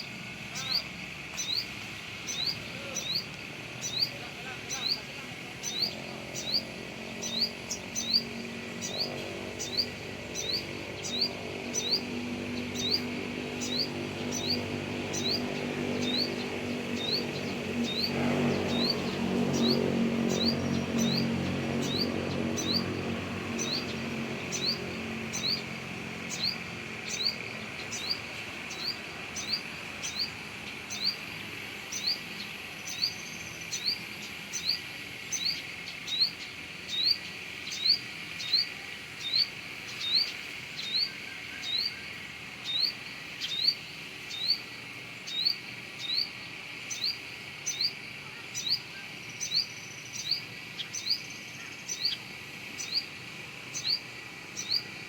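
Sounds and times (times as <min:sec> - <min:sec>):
bird chirping: 0:00.0 - 0:55.0
steady high hiss: 0:00.0 - 0:55.0.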